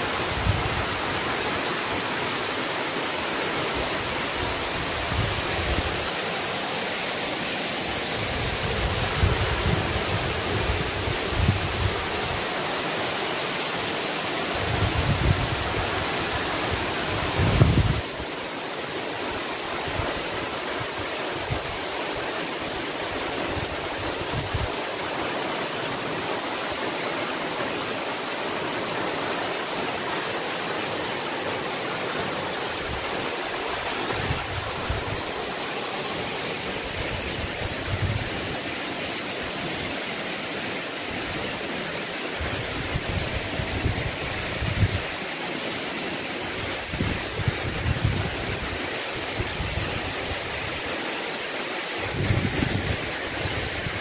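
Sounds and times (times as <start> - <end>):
waterfall rushing into pool: 0.0 - 54.0.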